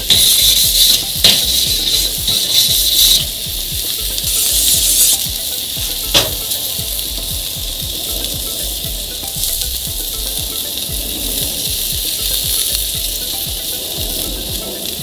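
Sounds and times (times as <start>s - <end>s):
low pulsing rumble: 0.0s - 15.0s
steaks sizzling on a grill: 0.0s - 15.0s.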